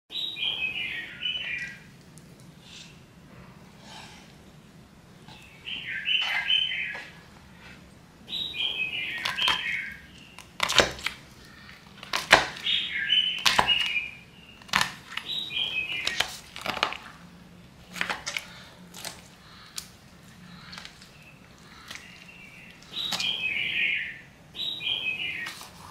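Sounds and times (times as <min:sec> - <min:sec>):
birds chirping: 0:00.1 - 0:25.9.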